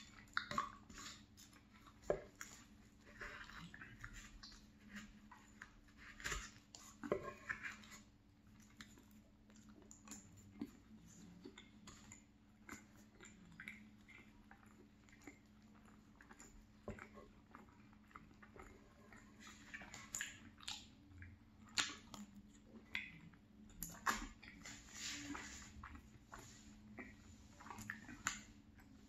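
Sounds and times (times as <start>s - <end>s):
close-up chewing: 0.0s - 29.0s.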